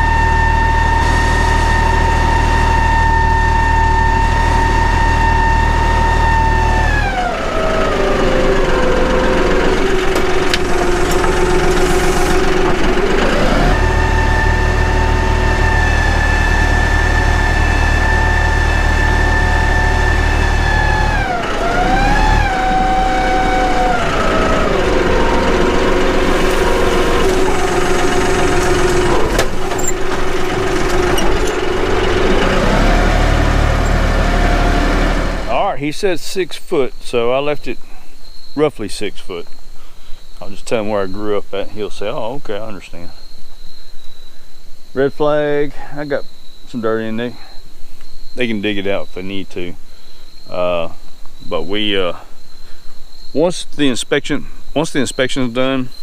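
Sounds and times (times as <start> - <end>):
tractor diesel engine working: 0.0 - 38.0, 38.6 - 43.8, 48.4 - 56.0.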